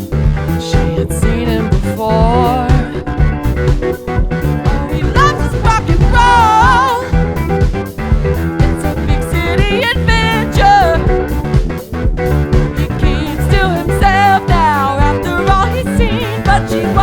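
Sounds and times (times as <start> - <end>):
rock band playing: 0.0 - 17.0
wavering lead melody: 0.0 - 17.0.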